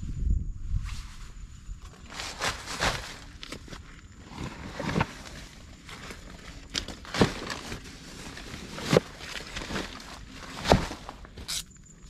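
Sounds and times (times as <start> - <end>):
rustling: 0.8 - 11.7.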